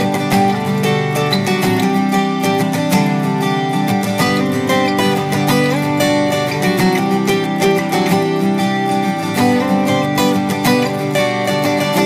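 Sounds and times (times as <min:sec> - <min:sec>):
acoustic guitar picking and strumming: 0:00.0 - 0:12.0.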